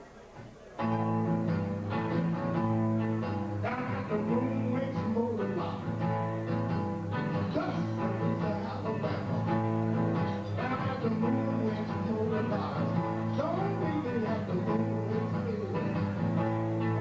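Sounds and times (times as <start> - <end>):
electric guitar playing blues: 0.8 - 17.0.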